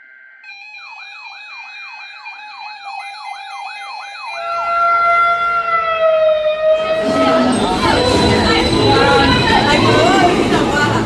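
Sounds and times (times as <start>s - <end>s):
siren yelping: 0.5s - 10.9s.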